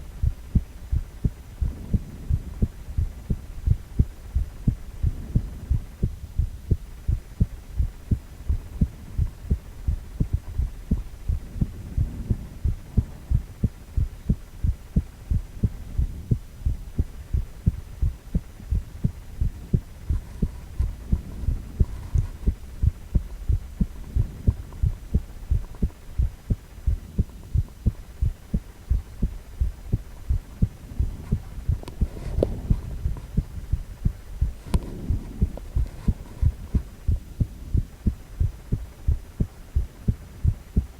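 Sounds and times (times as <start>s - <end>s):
faint low hum: 0.0s - 40.9s
heartbeat thumps: 0.0s - 40.9s.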